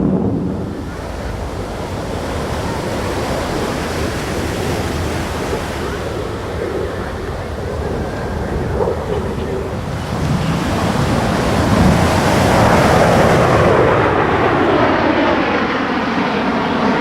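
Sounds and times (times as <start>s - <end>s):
jet aircraft roar passing: 0.0s - 17.0s.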